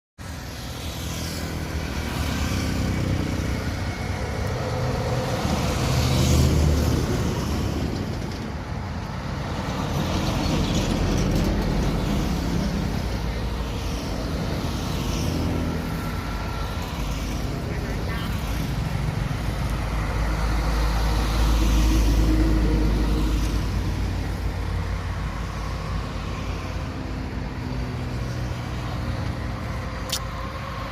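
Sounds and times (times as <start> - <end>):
vehicle engines running: 0.2 - 30.9.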